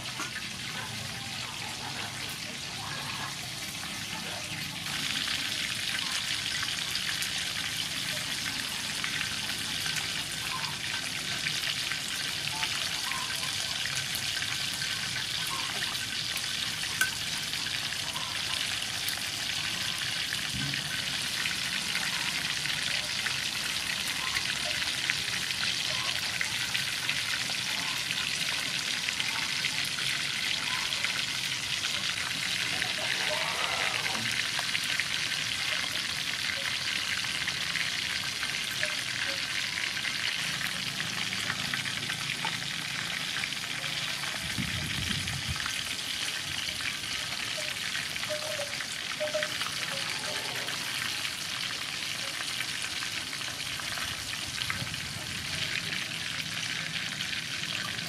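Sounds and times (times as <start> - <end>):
chicken deep-frying in hot oil: 0.0 - 58.0.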